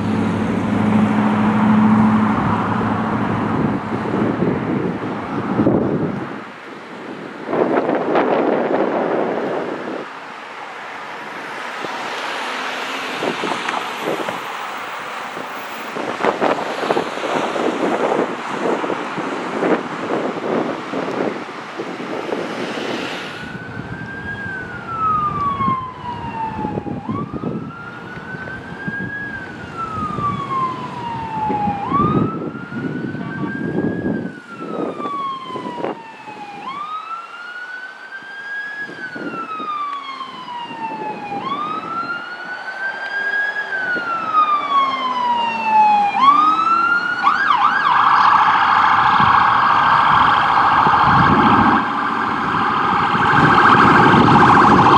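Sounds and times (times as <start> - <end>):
wind on microphone: 0.0 - 10.2, 12.9 - 37.0, 38.7 - 54.9
ambulance siren: 7.5 - 54.9.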